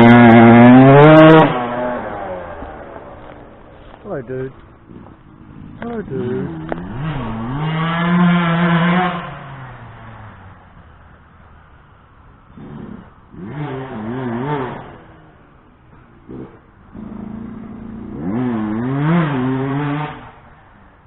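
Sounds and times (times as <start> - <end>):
dirt bike engine revving: 0.0 - 10.4, 12.5 - 15.3, 16.2 - 20.7.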